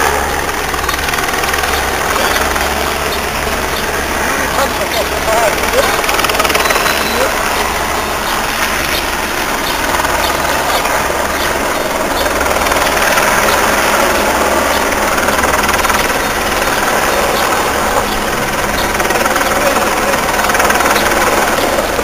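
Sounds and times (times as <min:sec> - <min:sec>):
helicopter drone: 0:00.0 - 0:22.0.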